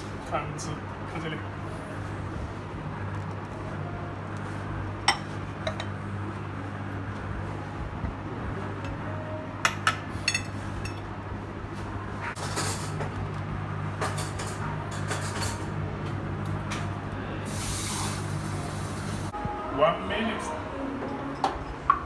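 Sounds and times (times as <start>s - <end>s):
appliance humming: 0.0s - 22.0s.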